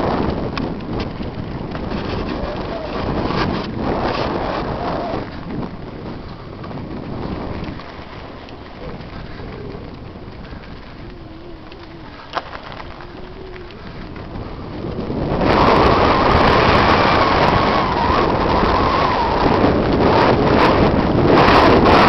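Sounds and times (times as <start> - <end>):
tyres rolling over dirt trail: 0.0 - 22.0
wind buffeting microphone: 0.0 - 22.0.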